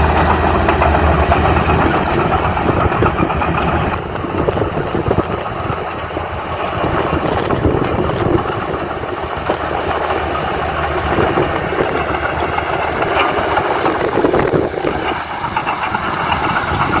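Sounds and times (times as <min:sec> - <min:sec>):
continuous clatter: 0:00.0 - 0:17.0
heavy machinery engine running: 0:00.0 - 0:17.0.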